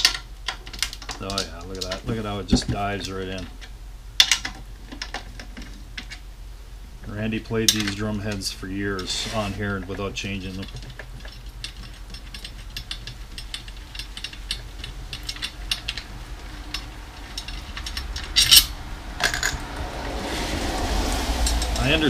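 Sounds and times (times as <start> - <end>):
drum hardware clatter: 0.0 - 6.2, 7.6 - 19.7
drum hardware clicking and clinking: 0.0 - 6.2, 7.0 - 19.7, 21.4 - 22.0.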